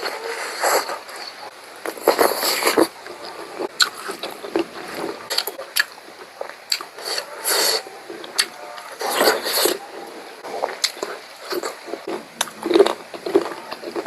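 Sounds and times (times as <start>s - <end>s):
wet chewing and mouth smacks: 1.8s - 14.0s.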